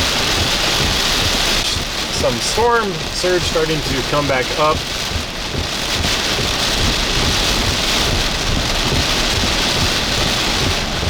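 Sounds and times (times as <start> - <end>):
heavy rain hissing: 0.0 - 11.0
wind buffeting microphone: 0.0 - 11.0.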